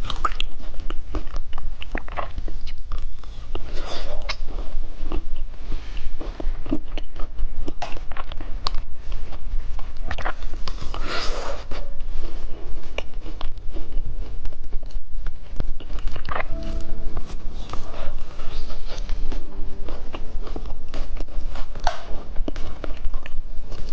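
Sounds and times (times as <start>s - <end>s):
crunching and wet mouth sounds: 0.0s - 16.6s, 18.4s - 23.9s.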